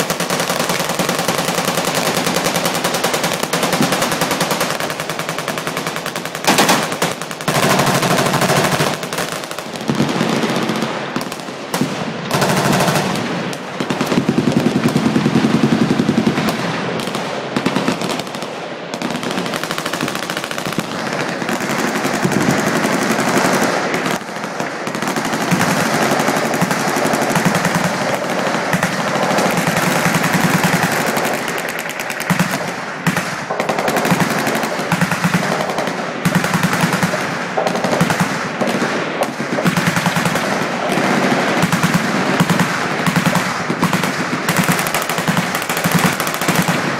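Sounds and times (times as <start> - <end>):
machine guns firing: 0.0 - 46.9.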